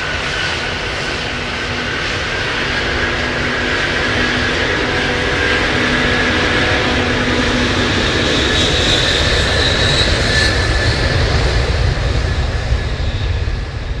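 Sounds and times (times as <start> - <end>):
jet engine running: 0.0 - 14.0.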